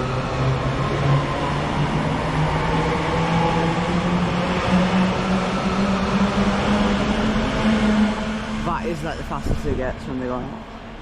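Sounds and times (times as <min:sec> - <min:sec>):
train traction whine rising: 0:00.0 - 0:11.0.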